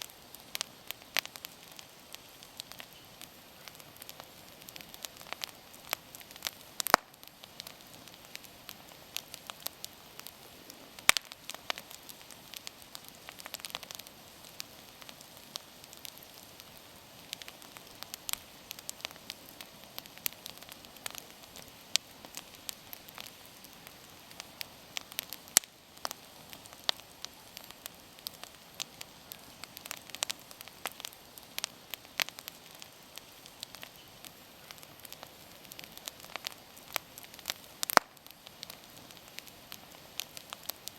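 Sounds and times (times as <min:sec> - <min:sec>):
campfire crackling and popping: 0:00.0 - 0:40.9
faint steady hiss: 0:00.0 - 0:40.9.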